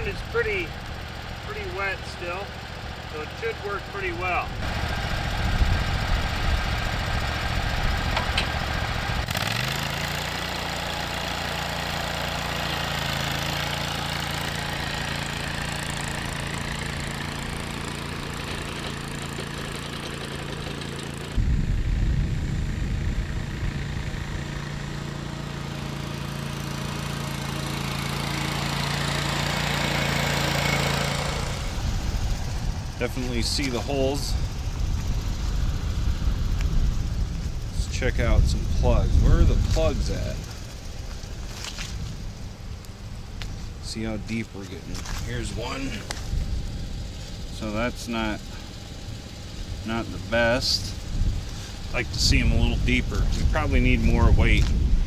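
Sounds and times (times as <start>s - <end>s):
mower engine running: 0.0s - 55.0s.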